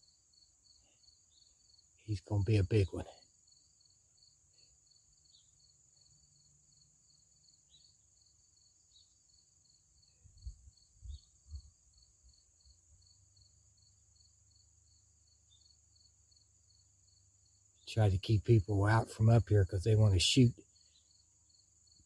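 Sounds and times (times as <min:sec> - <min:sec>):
crickets chirping: 0:00.0 - 0:22.0
high insect trill: 0:00.0 - 0:22.0.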